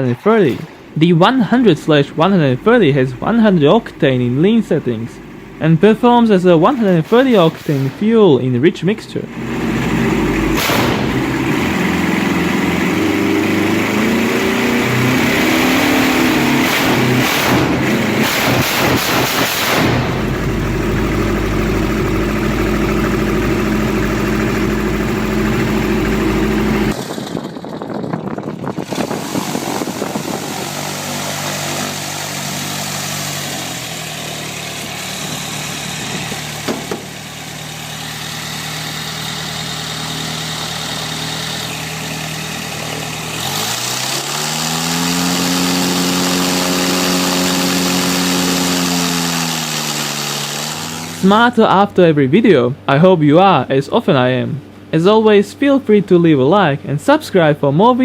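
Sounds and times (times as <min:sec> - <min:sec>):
aircraft engine running: 0:00.0 - 0:51.6.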